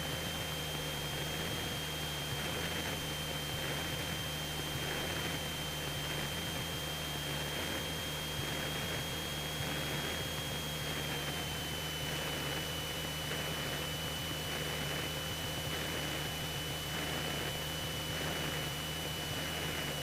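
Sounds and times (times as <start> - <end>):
aircraft engine and propeller drone: 0.0 - 20.0.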